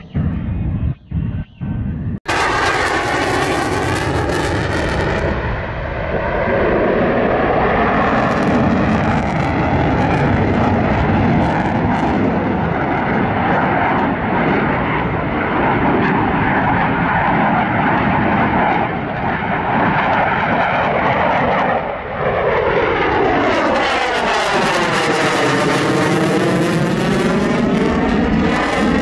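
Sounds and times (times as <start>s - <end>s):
fighter jet flying overhead: 0.0s - 29.0s.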